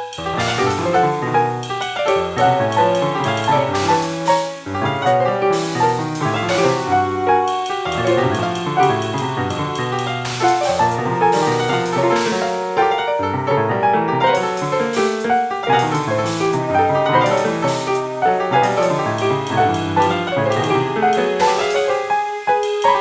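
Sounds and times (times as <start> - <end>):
free jazz piano: 0.0 - 23.0.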